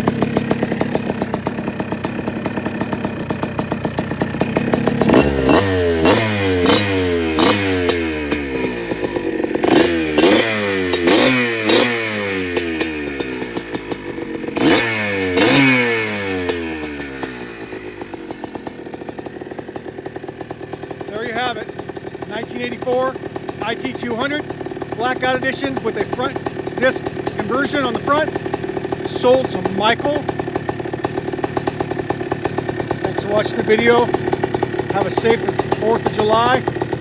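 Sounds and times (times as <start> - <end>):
two-stroke engine idling and revving: 0.0 - 37.0.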